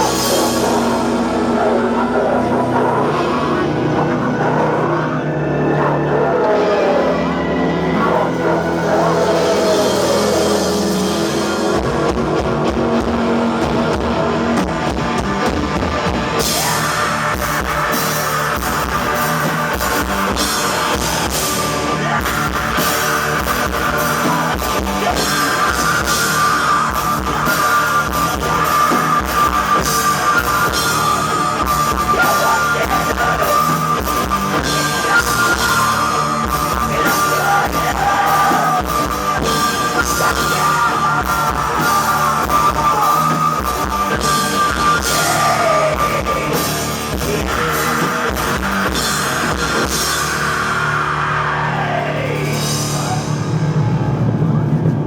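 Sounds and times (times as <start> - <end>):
fast drumming: 0.0 - 4.4, 8.2 - 55.0
person singing: 0.0 - 15.1, 16.4 - 53.9
distorted guitar: 0.0 - 55.0.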